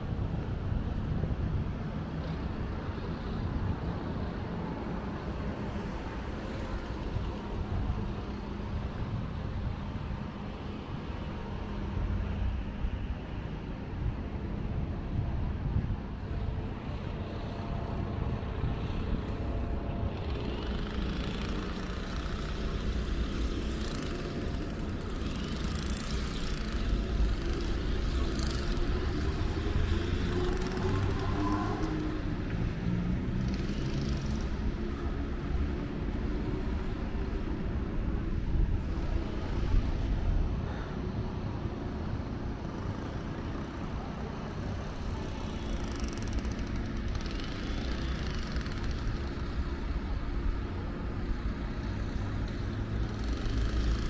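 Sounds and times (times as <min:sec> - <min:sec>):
rumble of passing cars: 0:00.0 - 0:54.0.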